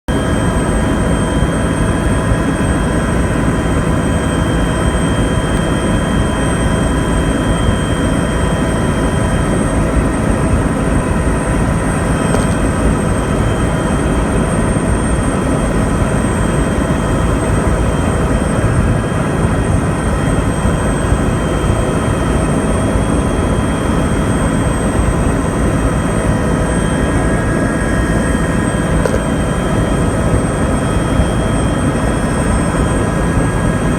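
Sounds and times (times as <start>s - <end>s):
helicopter engine and rotor drone: 0.1s - 33.9s.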